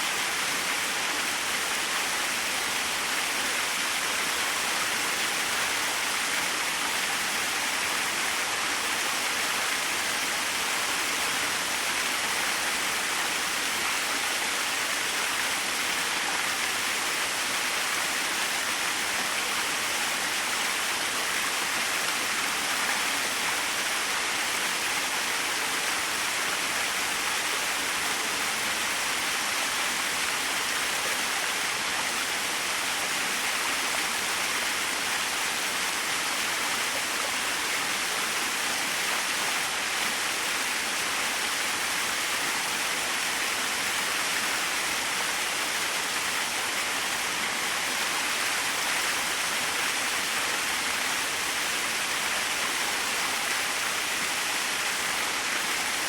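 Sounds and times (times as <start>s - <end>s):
small waterfall splashing: 0.0s - 56.0s.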